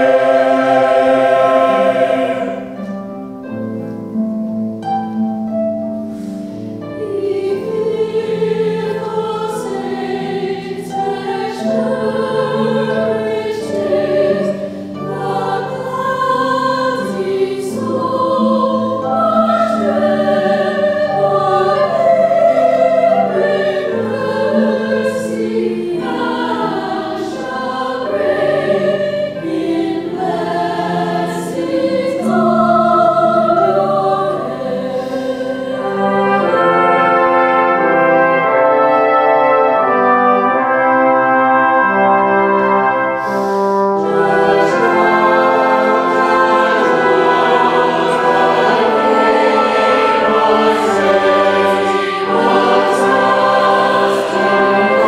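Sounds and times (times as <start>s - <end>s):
mixed choir singing: 0.0s - 3.0s, 6.8s - 55.0s
harp accompaniment: 0.0s - 55.0s.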